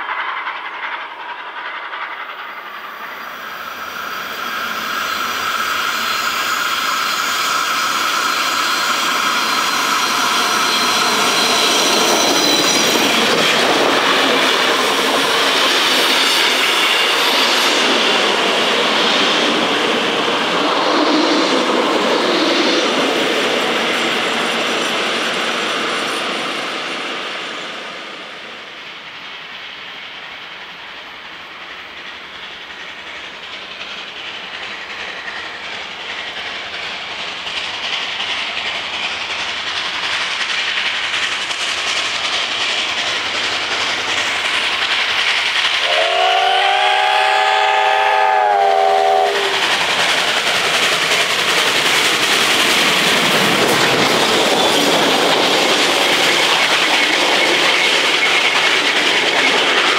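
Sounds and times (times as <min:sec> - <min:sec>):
steam train passing: 0:00.0 - 0:59.9.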